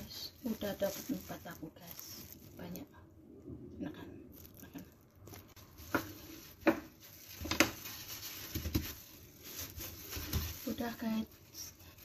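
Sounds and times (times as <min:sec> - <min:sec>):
gloved hands rubbing plastic wrap: 0:00.0 - 0:02.9, 0:04.3 - 0:12.0.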